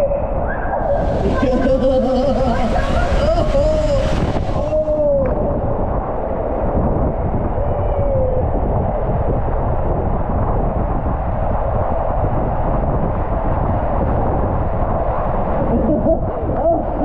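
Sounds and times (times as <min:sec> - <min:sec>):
rushing water and wind rumble: 0:00.0 - 0:17.0.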